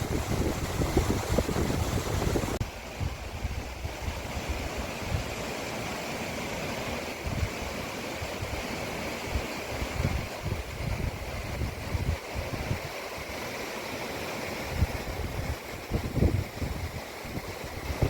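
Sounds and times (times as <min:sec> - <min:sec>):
wind buffeting microphone: 0:00.0 - 0:05.4, 0:07.2 - 0:13.4, 0:14.6 - 0:18.0
rushing outdoor noise: 0:00.0 - 0:18.0.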